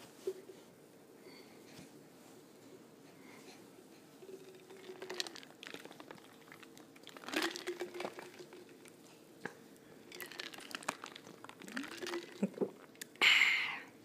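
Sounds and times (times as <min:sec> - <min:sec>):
faint soft hum: 0:00.0 - 0:14.0.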